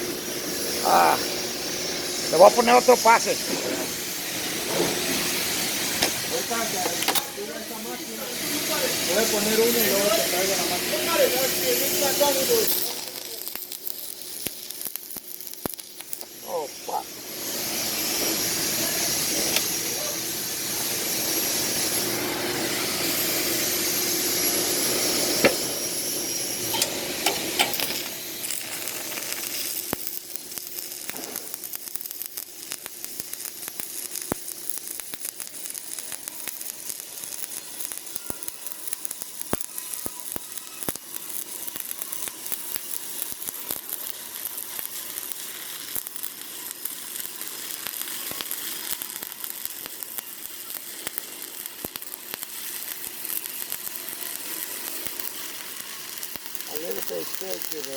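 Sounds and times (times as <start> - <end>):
welding arc frying sizzle: 0.0 - 57.9.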